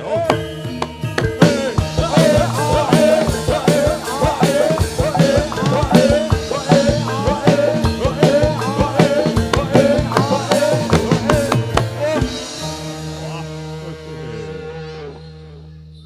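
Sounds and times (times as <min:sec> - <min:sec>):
rapid hand drum strokes: 0:00.0 - 0:14.6
gamelan ensemble playing: 0:00.0 - 0:14.9.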